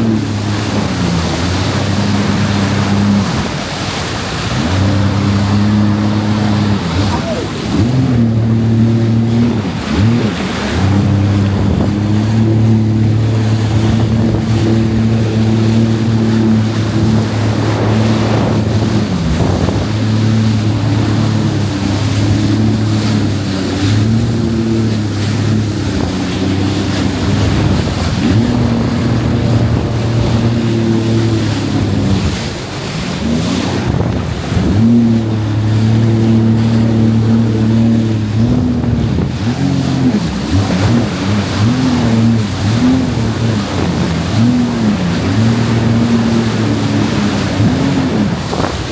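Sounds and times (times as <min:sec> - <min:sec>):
jet ski engine running: 0:00.0 - 0:48.9
wind and water rushing: 0:00.0 - 0:48.9.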